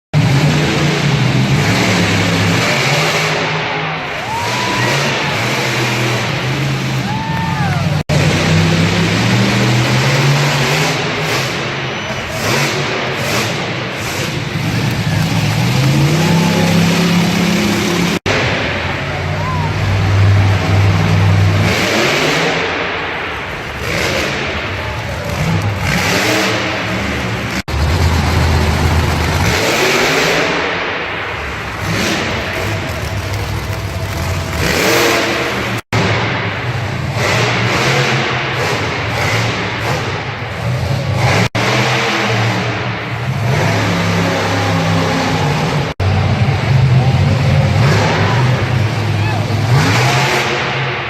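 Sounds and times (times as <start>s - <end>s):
truck engine revving loudly: 0.1s - 51.0s.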